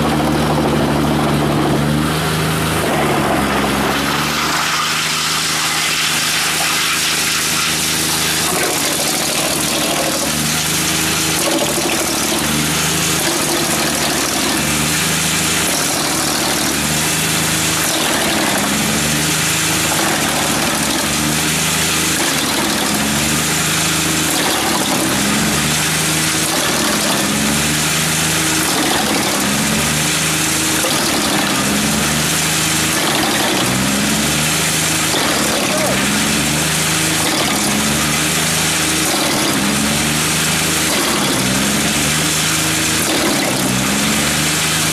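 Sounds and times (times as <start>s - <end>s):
wood chipper diesel engine running: 0.0s - 44.9s.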